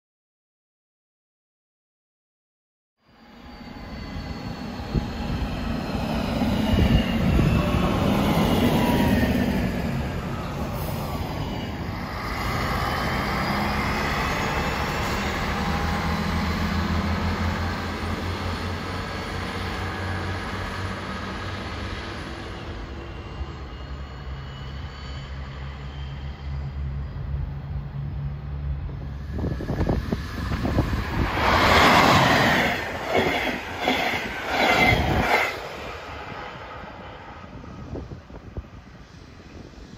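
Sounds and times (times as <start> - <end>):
diesel railcar passing: 3.0 - 39.9.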